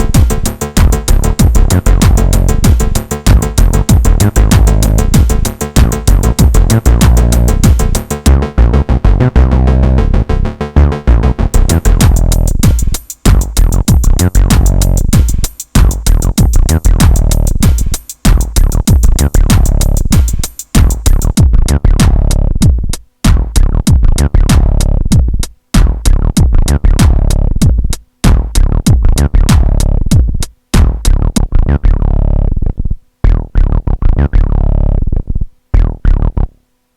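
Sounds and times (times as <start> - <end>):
synth bassline: 0.0 - 25.2, 25.8 - 36.6
drum machine pattern: 0.0 - 32.0.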